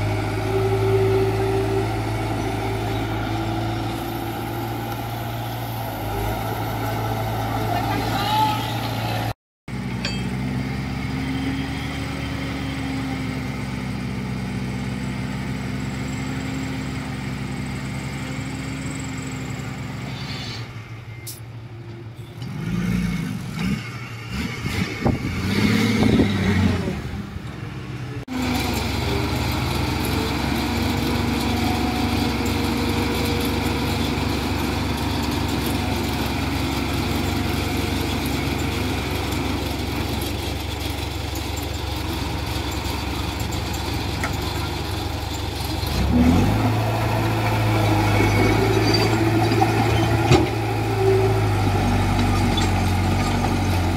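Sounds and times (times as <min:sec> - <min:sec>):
diesel engine running and revving: 0:00.0 - 0:21.4, 0:22.2 - 0:53.9.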